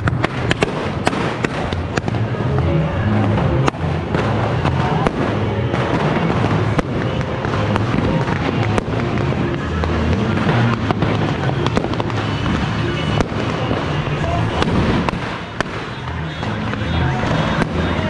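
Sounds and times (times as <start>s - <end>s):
firecrackers banging: 0.0s - 18.0s
loud bass-heavy music: 0.0s - 18.0s.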